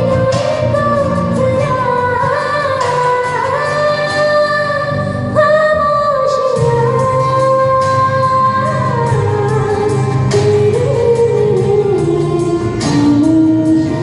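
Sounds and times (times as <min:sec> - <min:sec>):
backing track music: 0:00.0 - 0:14.0
woman singing: 0:00.0 - 0:14.0.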